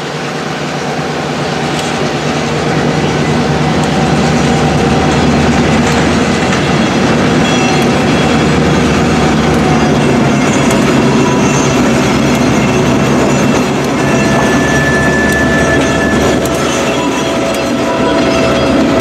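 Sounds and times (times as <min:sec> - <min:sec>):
diesel locomotive engine running: 0:00.0 - 0:19.0
wheels on rails: 0:00.0 - 0:19.0
high wheel squeal: 0:00.4 - 0:19.0.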